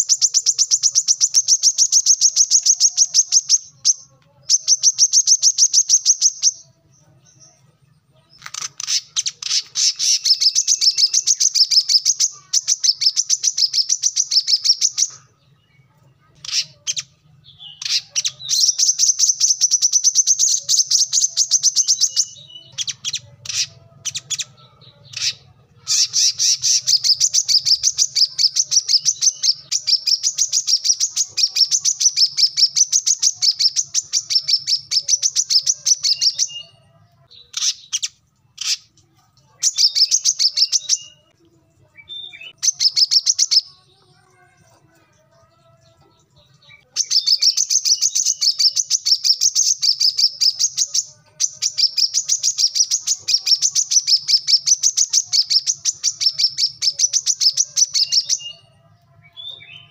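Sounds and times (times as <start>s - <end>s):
bird high chattering song: 0.0s - 44.8s, 45.4s - 59.9s.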